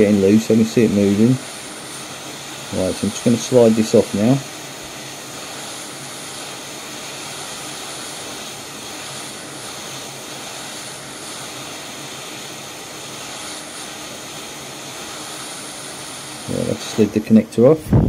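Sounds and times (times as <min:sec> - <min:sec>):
hot air blowing hiss: 0:00.0 - 0:18.0.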